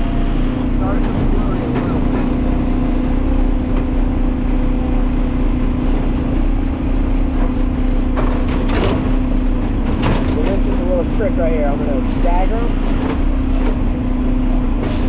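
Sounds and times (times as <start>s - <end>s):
garbage truck engine humming: 0.0s - 15.0s.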